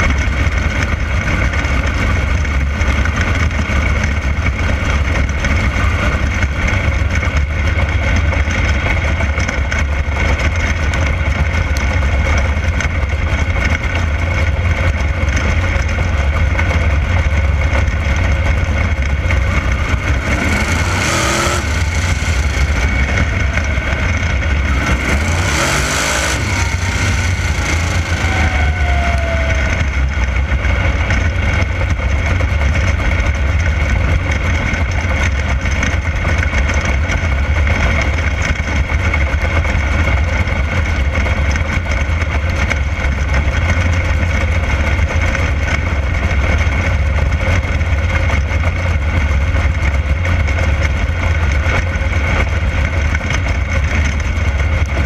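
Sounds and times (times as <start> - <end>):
race car engine drone: 0.0 - 55.0.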